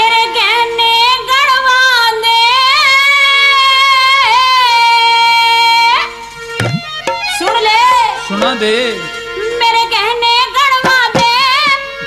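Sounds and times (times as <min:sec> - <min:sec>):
harmonium drone: 0:00.0 - 0:12.0.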